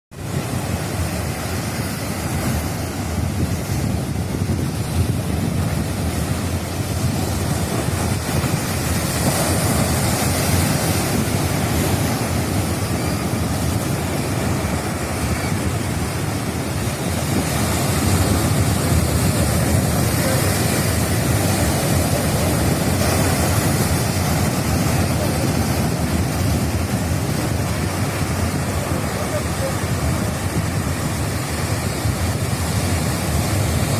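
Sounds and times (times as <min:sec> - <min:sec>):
sea surf breaking on shore: 0:00.1 - 0:33.9
wind buffeting microphone: 0:00.2 - 0:33.9.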